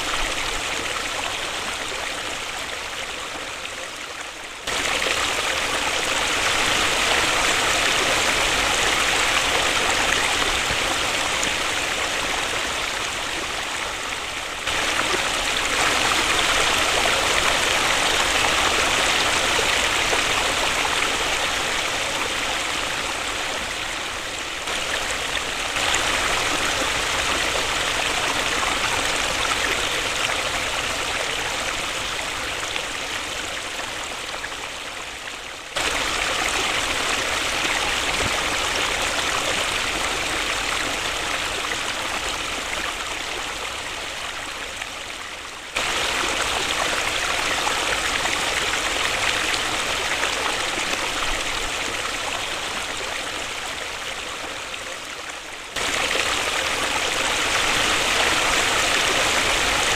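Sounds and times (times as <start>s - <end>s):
waterfall rushing: 4.6s - 34.5s, 35.8s - 44.8s, 45.8s - 54.2s, 55.7s - 59.9s.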